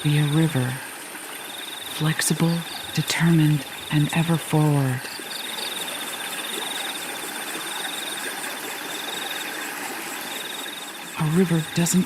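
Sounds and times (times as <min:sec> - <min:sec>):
cricket trilling: 0:00.0 - 0:12.0
river flowing: 0:00.0 - 0:12.0.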